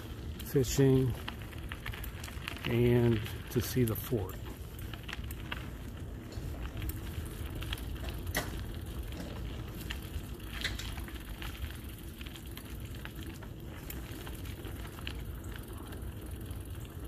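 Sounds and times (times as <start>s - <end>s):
tyres crunching on gravel: 0.0s - 17.0s.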